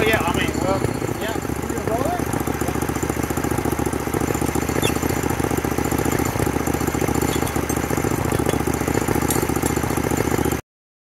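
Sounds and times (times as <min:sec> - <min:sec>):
small petrol engine idling: 0:00.0 - 0:10.6.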